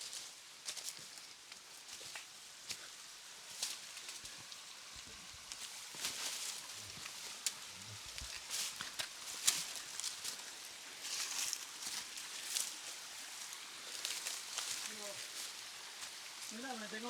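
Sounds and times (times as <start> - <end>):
faint river water rushing: 0.0 - 17.0
footsteps on stones and leaves: 0.0 - 17.0.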